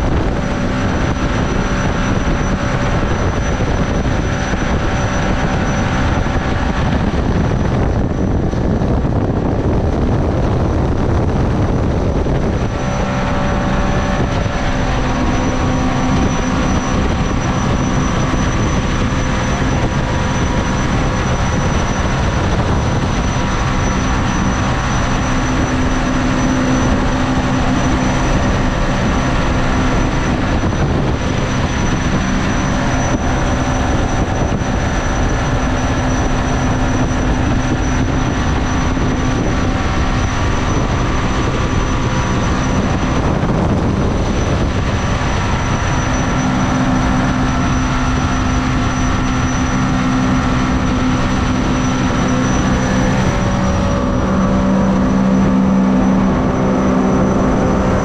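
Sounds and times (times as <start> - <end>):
boat engine running: 0.0 - 58.0
water rushing: 0.0 - 58.0
wind: 0.0 - 58.0.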